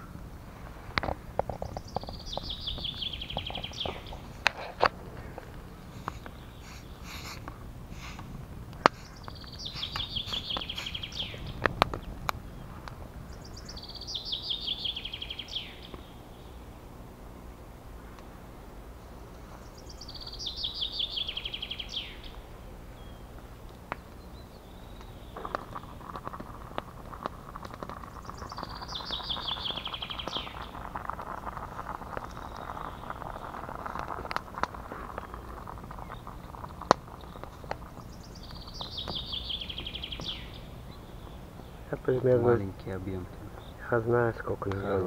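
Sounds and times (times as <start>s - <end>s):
songbird singing trill: 0.0s - 45.0s.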